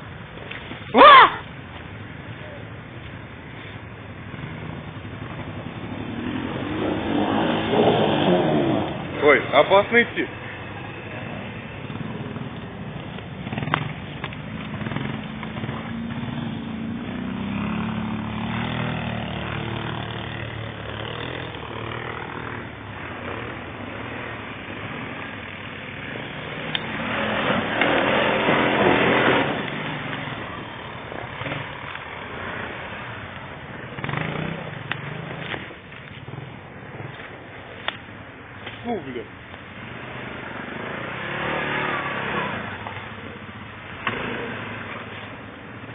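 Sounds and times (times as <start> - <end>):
quad bike engine revving: 4.3 - 37.3, 38.9 - 45.9.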